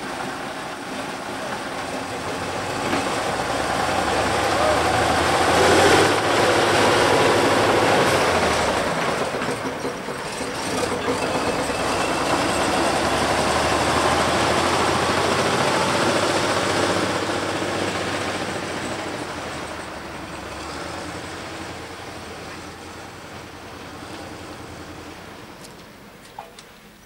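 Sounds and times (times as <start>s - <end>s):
diesel locomotive engine rumble: 0.0s - 27.0s.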